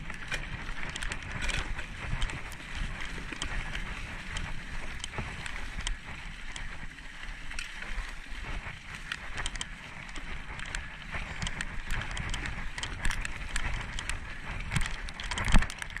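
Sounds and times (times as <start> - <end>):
bike rattling and knocking: 0.0 - 16.0
bike tyres rolling on dirt trail: 0.0 - 16.0.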